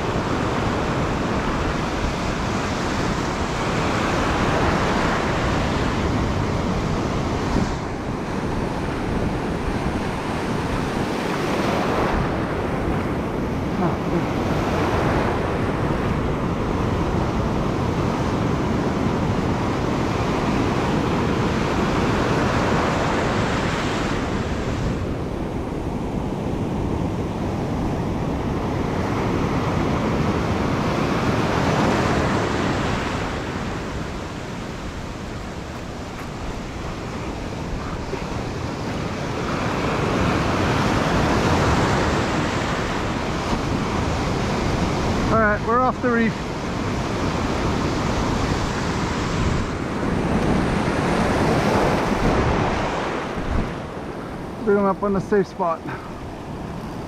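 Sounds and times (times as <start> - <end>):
ocean surf breaking on rocks: 0.0 - 57.0.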